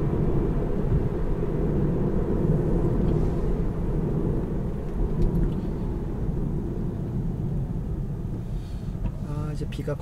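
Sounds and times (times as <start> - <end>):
road and tyre rumble: 0.0 - 10.0.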